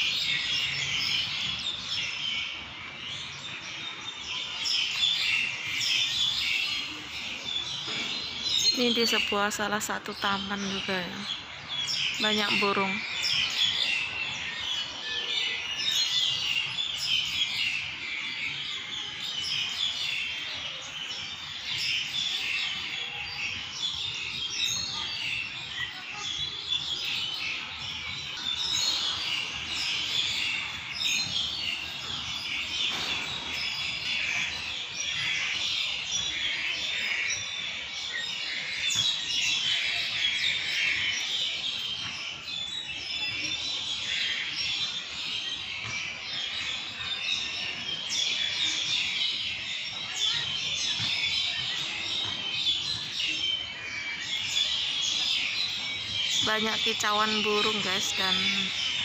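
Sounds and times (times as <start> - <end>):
small birds chirping and twittering: 0.0 - 59.0.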